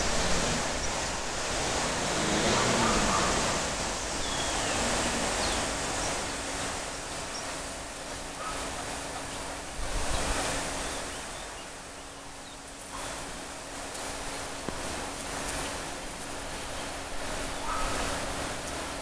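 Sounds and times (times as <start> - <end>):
outdoor noise wash: 0.0 - 19.0.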